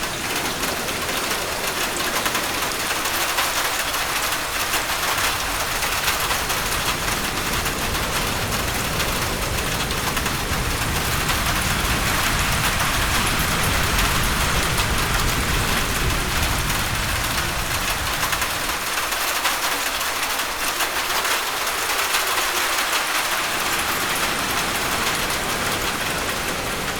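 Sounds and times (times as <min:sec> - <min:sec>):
heavy rain on a roof: 0:00.0 - 0:26.9.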